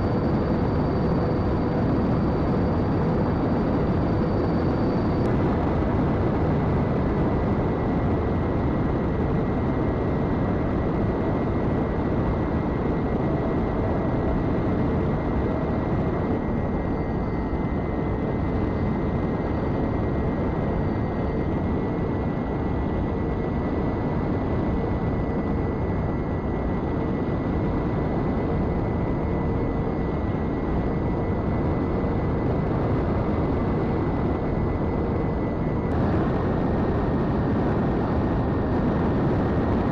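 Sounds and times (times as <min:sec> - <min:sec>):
electric motors and propellers whining: 0:00.0 - 0:39.9.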